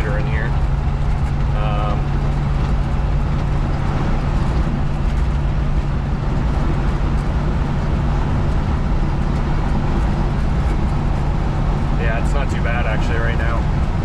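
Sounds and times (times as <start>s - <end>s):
engine drone inside pickup cab: 0.0s - 14.0s
road and wind noise: 0.0s - 14.0s.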